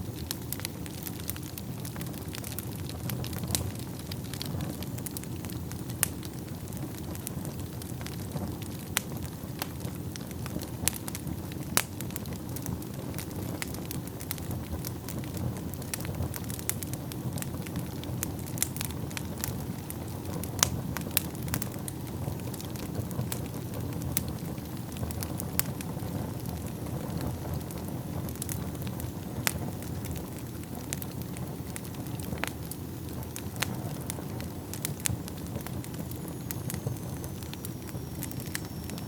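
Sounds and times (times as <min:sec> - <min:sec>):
burning wood crackling and popping: 0:00.0 - 0:39.0
fire flames rumbling: 0:00.0 - 0:39.0.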